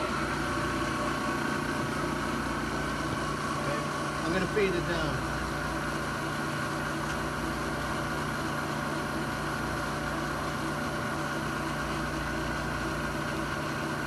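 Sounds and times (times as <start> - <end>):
milling machine humming: 0.0 - 14.0.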